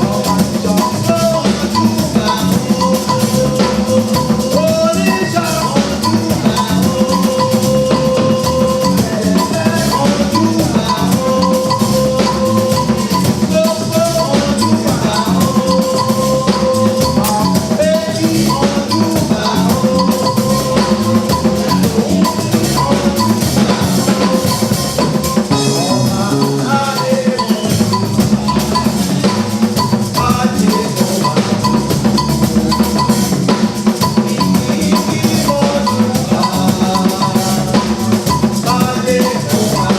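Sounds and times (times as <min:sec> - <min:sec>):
music with drum beat and melody: 0:00.0 - 0:39.9.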